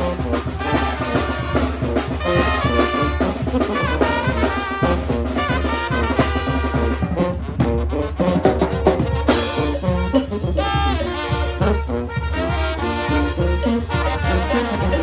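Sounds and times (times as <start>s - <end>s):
brass melody: 0.0s - 15.0s
steady drum beat: 0.0s - 15.0s.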